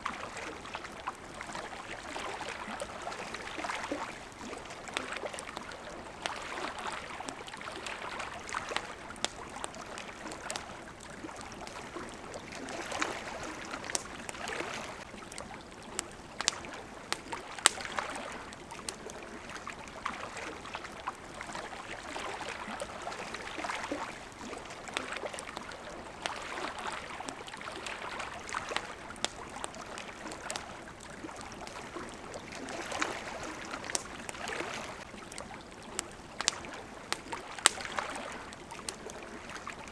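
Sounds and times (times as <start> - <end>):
campfire crackling: 0.0 - 39.9
water washing against shore: 0.0 - 39.9.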